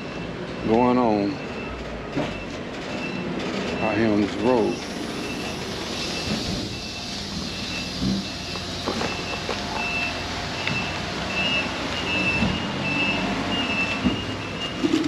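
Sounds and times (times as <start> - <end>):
truck backup alarm beeping: 0.0 - 15.0
truck engines idling: 0.0 - 15.0.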